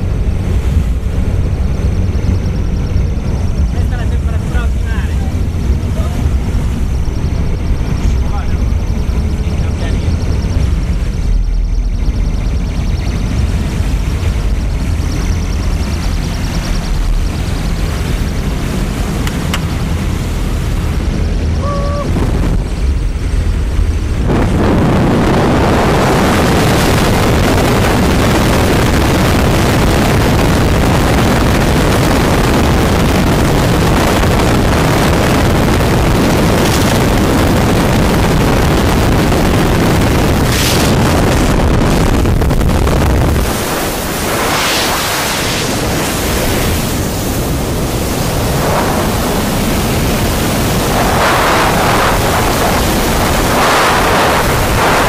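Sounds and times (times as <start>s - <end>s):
aircraft engine rumble: 0.0s - 55.0s
wind rushing over microphone: 0.0s - 55.0s.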